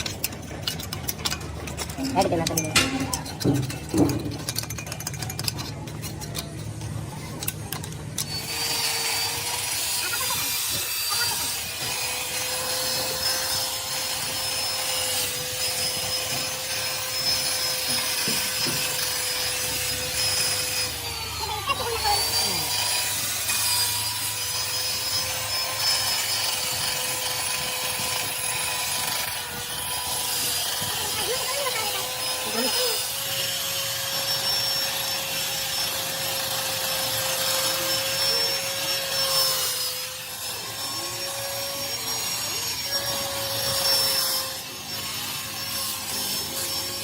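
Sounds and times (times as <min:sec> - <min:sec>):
electric power tool whining: 0:00.0 - 0:47.0.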